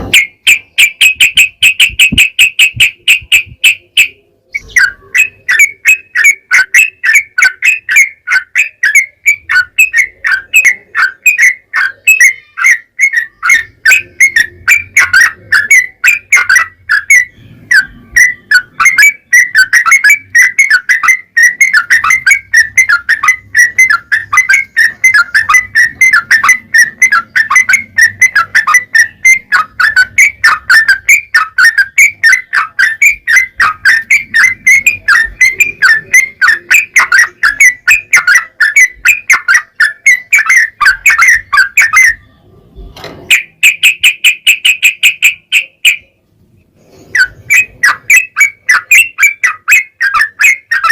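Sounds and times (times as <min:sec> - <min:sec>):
bird song of repeated notes: 0:00.0 - 0:50.9.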